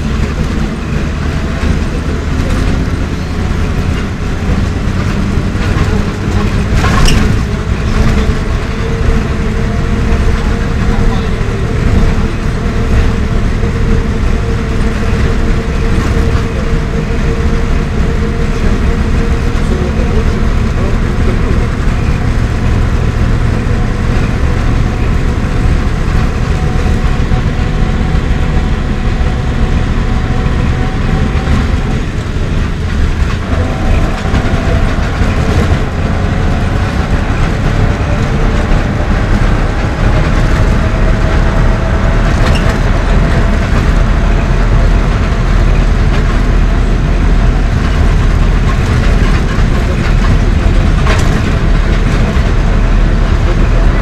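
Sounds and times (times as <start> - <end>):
bus engine drone: 0.0 - 54.0
road and body rumble: 0.0 - 54.0.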